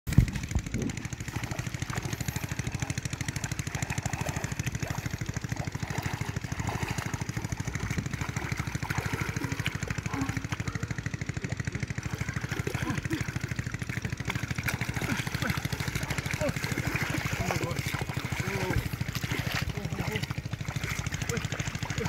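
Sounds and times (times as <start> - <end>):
small engine thumping: 0.1 - 22.0.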